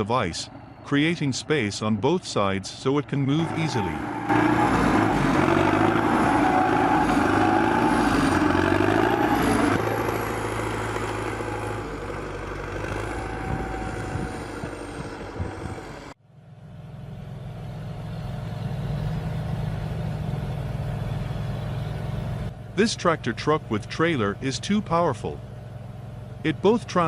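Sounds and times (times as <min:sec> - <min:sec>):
tracked vehicle engine under load: 0:03.2 - 0:27.0.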